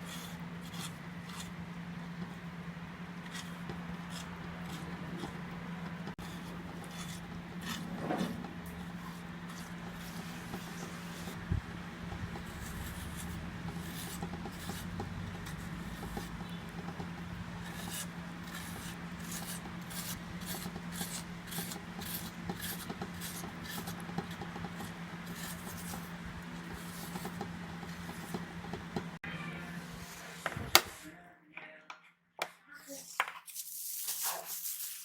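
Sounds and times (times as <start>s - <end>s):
utensil scraping a container: 0.0s - 2.5s, 3.2s - 29.2s, 32.9s - 35.0s
steady low hum: 0.0s - 31.2s.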